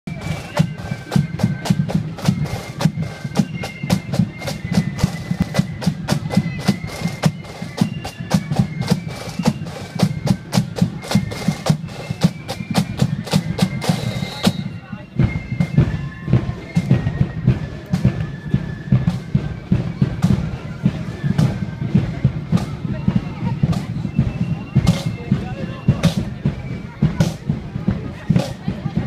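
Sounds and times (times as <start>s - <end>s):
flutes playing a tune: 0.1s - 29.0s
rapid snare drum strokes: 0.1s - 29.0s.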